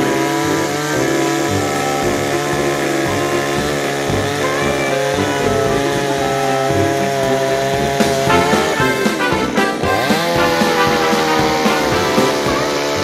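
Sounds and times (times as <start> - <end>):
background music: 0.0 - 13.0
chainsaw cutting log: 0.0 - 13.0.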